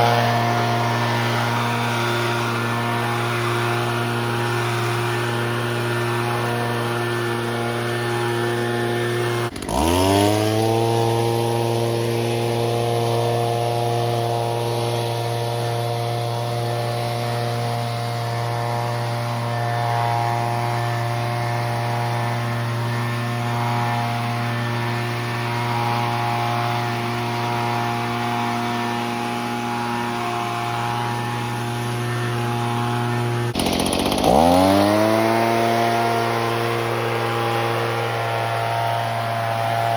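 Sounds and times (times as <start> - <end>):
leaf blower engine running: 0.0 - 39.9.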